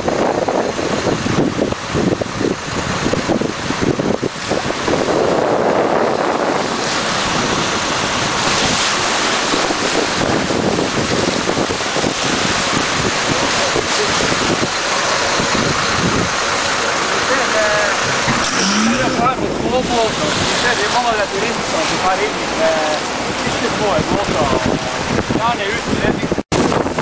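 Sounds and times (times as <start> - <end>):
turbulent water rushing: 0.0 - 27.0
wind buffeting microphone: 0.0 - 27.0.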